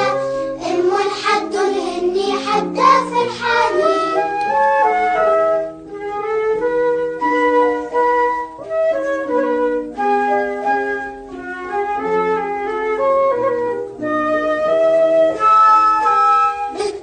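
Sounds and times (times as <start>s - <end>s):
flute-like melody: 0.0s - 1.4s, 2.3s - 17.0s
chordal backing: 0.0s - 17.0s.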